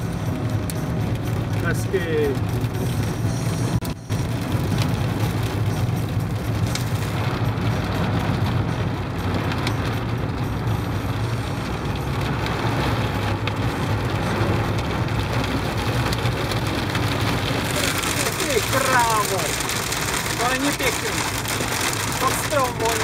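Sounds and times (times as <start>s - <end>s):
engine and road noise: 0.0s - 23.0s
hail and rain on car roof: 0.0s - 23.0s.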